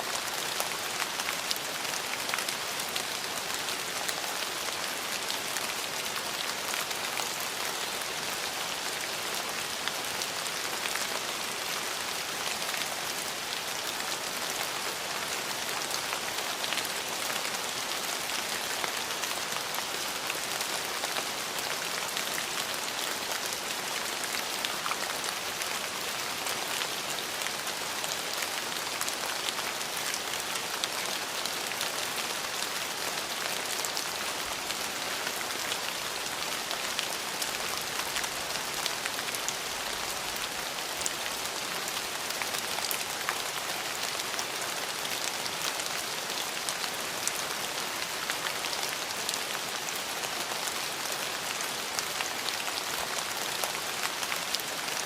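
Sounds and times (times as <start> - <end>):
rain on hard surfaces: 0.0 - 55.0.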